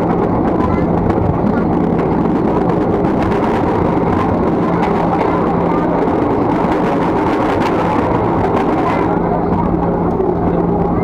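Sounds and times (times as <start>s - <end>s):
electric train rushing rumble: 0.0s - 11.0s
low hum: 0.0s - 11.0s.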